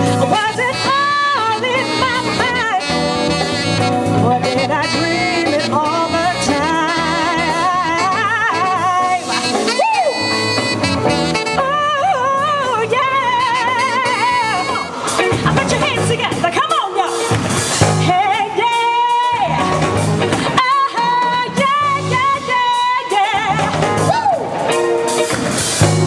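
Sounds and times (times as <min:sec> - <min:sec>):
woman singing with vibrato: 0:00.0 - 0:17.3, 0:18.0 - 0:19.8, 0:20.4 - 0:24.4
jazz soul band playing: 0:00.0 - 0:26.0.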